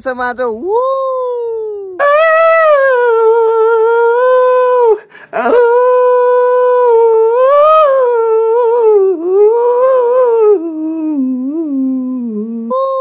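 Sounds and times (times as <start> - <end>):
wolf howling: 0.8 - 11.2.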